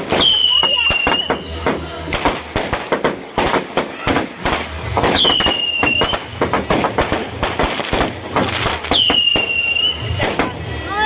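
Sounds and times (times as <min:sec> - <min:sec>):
whistling firework: 0:00.0 - 0:10.4
firecrackers cracking and popping: 0:00.0 - 0:10.8.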